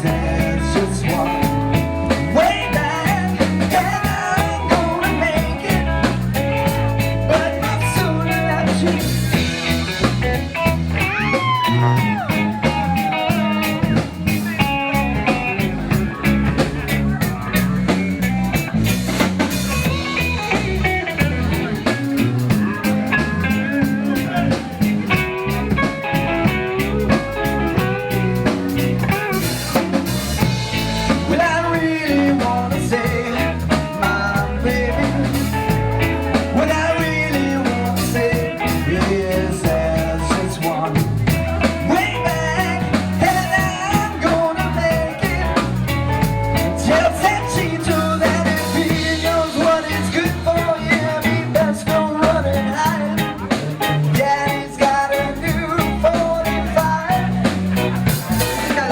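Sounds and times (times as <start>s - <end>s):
rock and roll band music: 0.0s - 58.9s.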